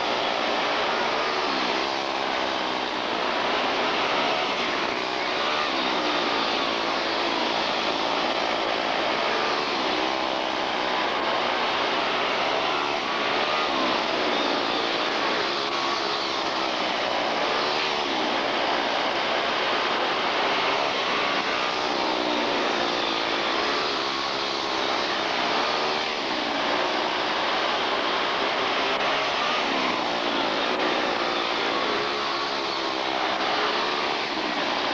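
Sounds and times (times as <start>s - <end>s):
small race car engines passing: 0.0s - 34.9s.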